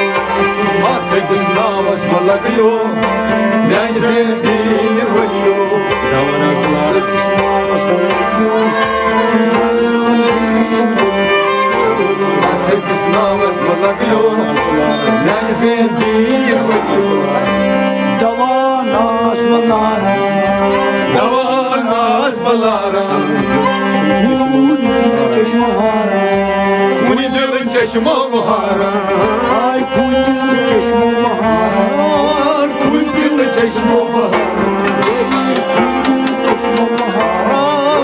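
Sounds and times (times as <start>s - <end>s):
instrumental accompaniment: 0.0s - 38.0s
man singing: 0.0s - 38.0s.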